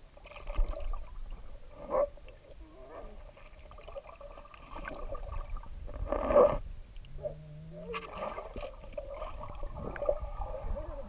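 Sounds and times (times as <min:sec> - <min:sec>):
dog paddling underwater: 0:00.0 - 0:11.0
muffled underwater water churning: 0:00.0 - 0:11.0.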